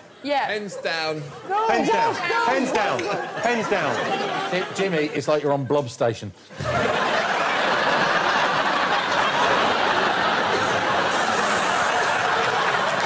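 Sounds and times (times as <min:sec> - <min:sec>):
studio audience laughing: 0:01.2 - 0:05.8, 0:06.5 - 0:13.0.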